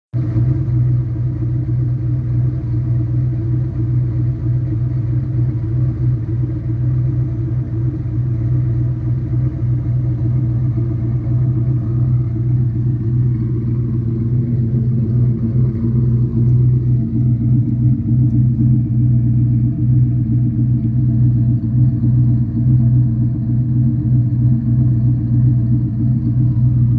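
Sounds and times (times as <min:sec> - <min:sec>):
car engine idling: 0:00.1 - 0:26.9.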